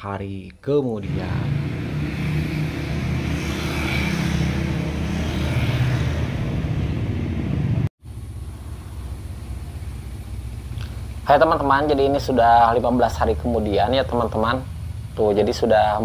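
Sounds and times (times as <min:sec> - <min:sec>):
engine humming steadily: 0:01.1 - 0:16.0.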